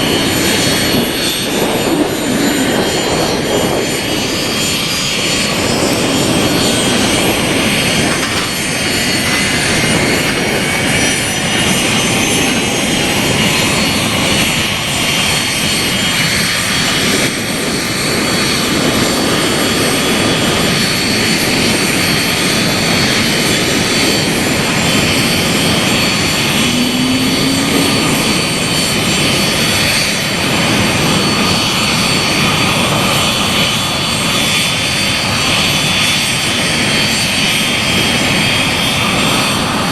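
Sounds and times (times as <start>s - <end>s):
jet engines running with whine: 0.0s - 39.9s.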